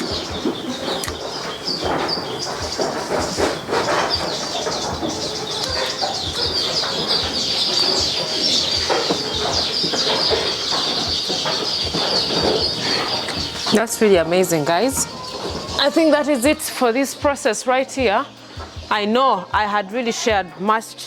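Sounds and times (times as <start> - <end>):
birds chirping and chattering: 0.0 - 21.0.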